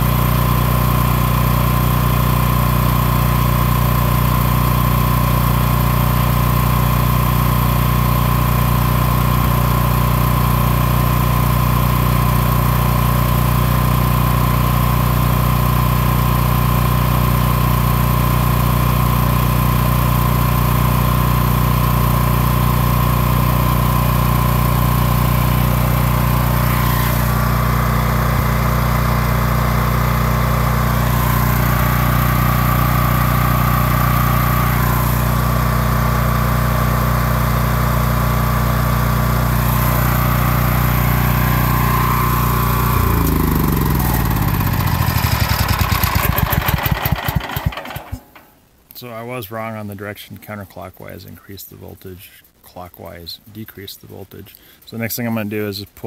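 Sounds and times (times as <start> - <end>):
generator engine running steadily: 0.0 - 48.6.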